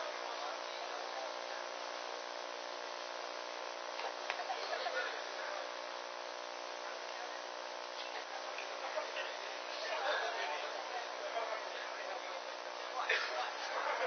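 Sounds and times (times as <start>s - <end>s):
faint murmur of voices: 0.0s - 14.0s
mains hum and buzz: 0.0s - 14.0s
tape hiss: 0.0s - 14.0s.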